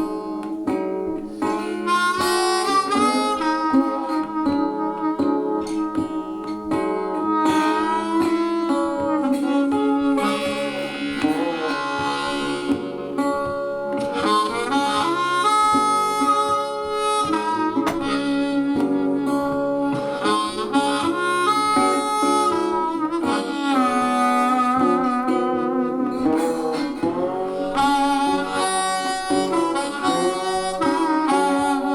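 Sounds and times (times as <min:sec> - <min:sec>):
instrumental music through speakers: 0:00.0 - 0:31.9.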